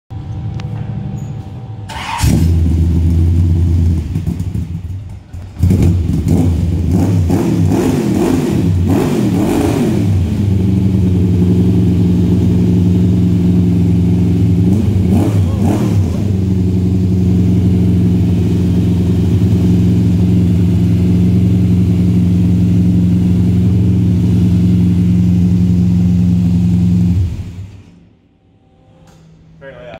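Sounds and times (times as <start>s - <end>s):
race car engine revving and idling: 2.2s - 27.9s.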